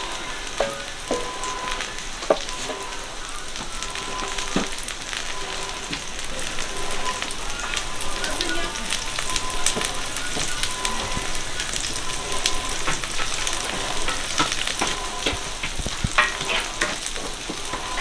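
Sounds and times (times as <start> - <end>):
food frying on griddle: 0.0 - 18.0.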